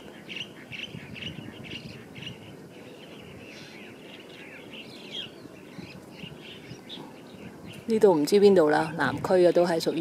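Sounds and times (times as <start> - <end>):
low steady background noise: 0.0 - 10.0
small birds chirping: 0.0 - 10.0.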